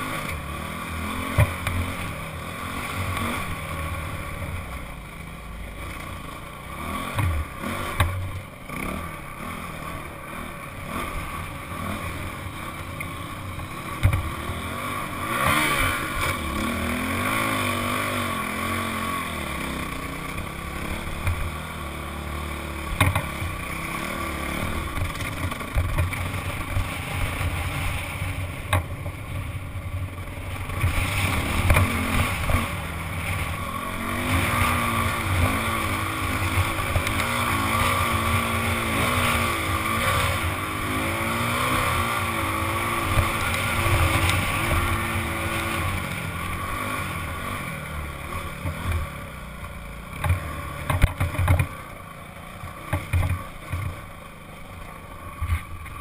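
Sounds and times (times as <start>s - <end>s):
dirt bike engine revving: 0.0s - 28.7s, 29.3s - 56.0s.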